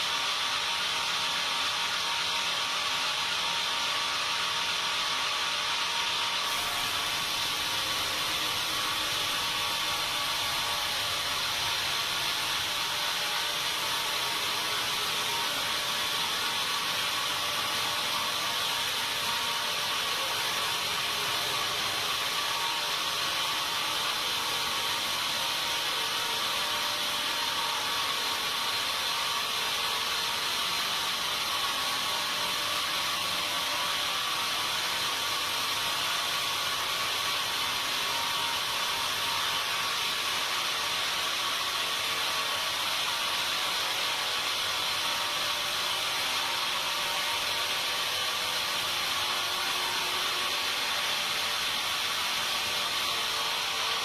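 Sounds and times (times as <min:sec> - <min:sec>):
sawmill saw running: 0:00.0 - 0:54.0.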